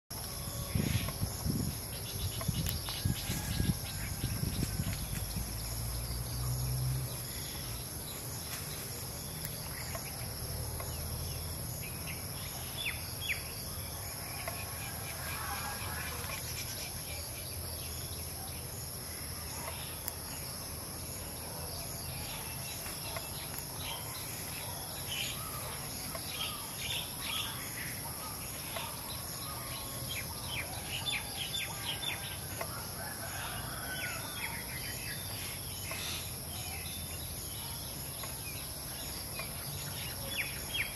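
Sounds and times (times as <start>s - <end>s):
insects droning: 0.1s - 40.9s.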